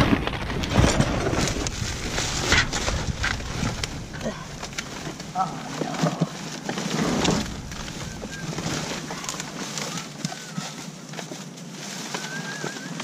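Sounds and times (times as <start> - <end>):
plastic bags crinkling: 0.0 - 13.0
trash pushed around by hand: 0.0 - 13.0.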